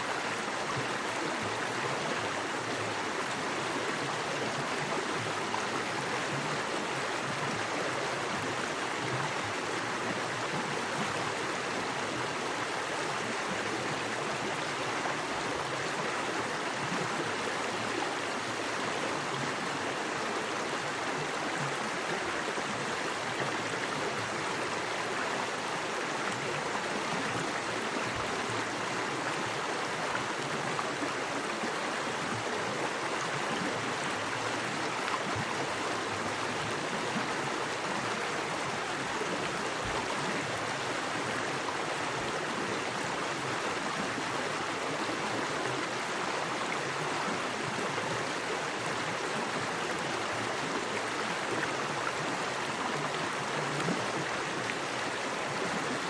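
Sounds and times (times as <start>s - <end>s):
creek rushing over rocks: 0.0s - 56.0s.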